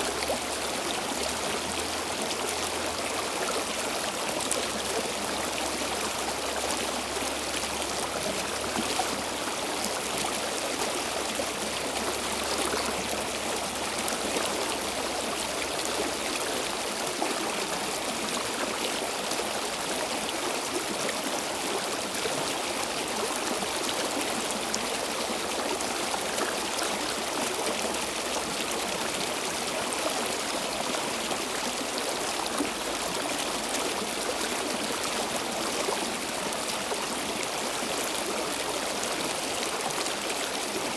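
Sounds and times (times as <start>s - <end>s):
stream running over rocks: 0.0s - 40.9s.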